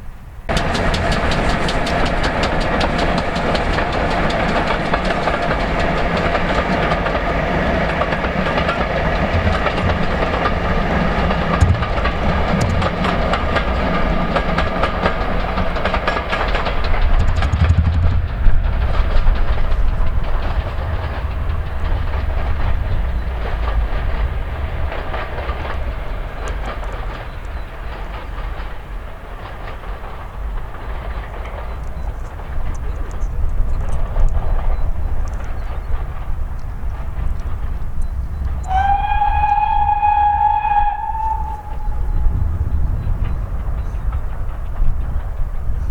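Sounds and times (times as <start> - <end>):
train rolling roar: 0.0 - 45.9
train wheels clattering over rail joints: 0.5 - 45.9.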